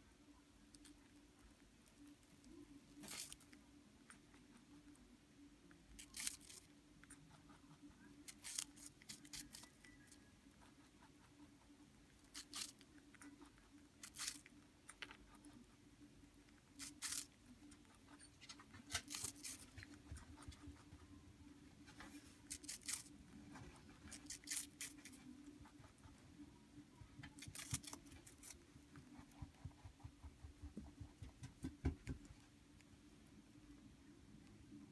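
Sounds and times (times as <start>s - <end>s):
rabbit chewing apple crunches: 0.0s - 34.9s.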